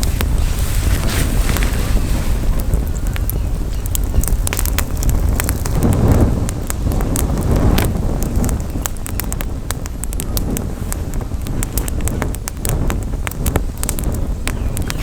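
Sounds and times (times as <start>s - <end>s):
campfire crackling: 0.0s - 15.0s
wind buffeting microphone: 0.0s - 15.0s.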